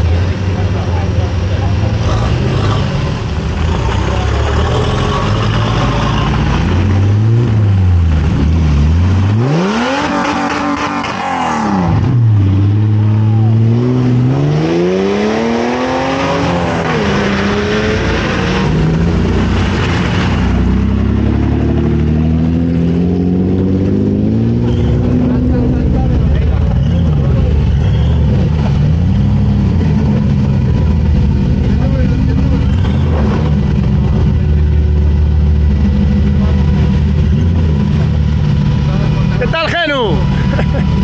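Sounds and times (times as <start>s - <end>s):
car engine revving hard: 1.7s - 41.0s.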